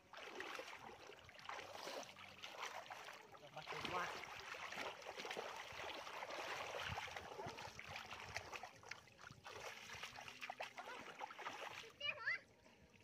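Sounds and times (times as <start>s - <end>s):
muddy water sloshing: 0.0s - 13.0s
squelches in mud: 0.0s - 13.0s.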